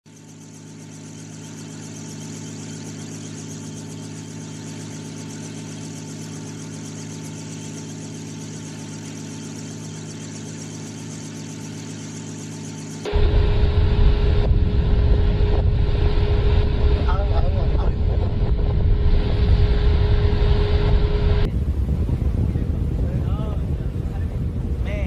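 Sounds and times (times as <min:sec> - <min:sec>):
engine hum with whine: 0:00.1 - 0:24.5.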